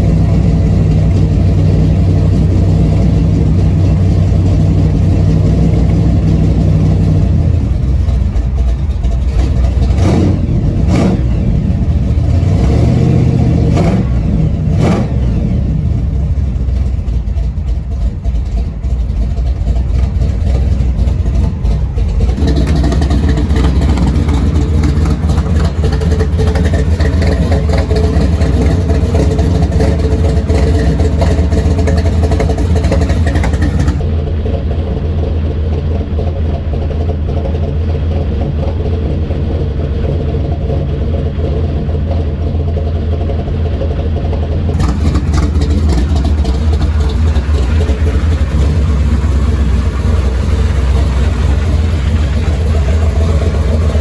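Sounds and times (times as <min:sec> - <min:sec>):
loud car engine idling: 0:00.0 - 0:54.0.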